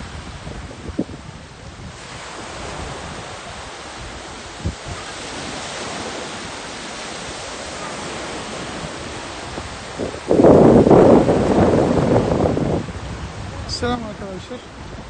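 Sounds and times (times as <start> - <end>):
waves washing up beach: 0.0 - 15.0.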